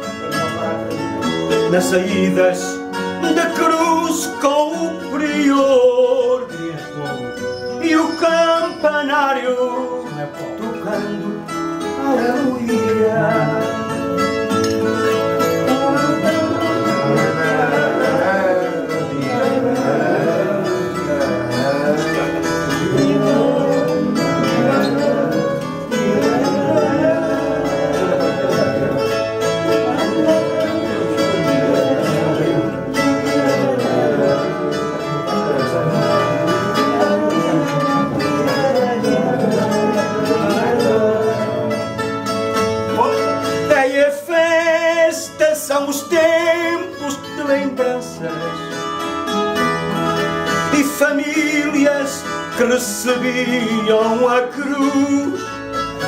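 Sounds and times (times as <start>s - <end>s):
acoustic guitar accompaniment: 0.0s - 56.0s
plucked guitar melody: 0.0s - 56.0s.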